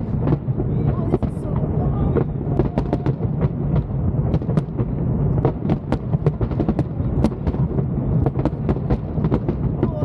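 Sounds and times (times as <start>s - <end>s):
booming firework shells: 0.0s - 10.0s
firework bangs and crackles: 0.0s - 10.0s.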